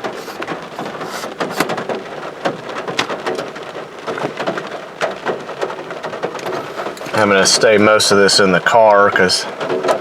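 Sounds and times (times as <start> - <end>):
rain drops striking a car: 0.0 - 10.0
steady rain hiss: 0.0 - 10.0.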